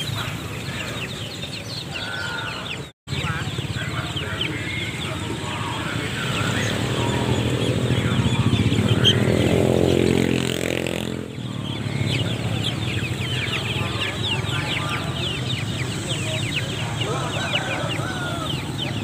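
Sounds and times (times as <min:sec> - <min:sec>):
chicks peeping: 0:00.0 - 0:19.0
motor vehicle passing: 0:00.0 - 0:19.0.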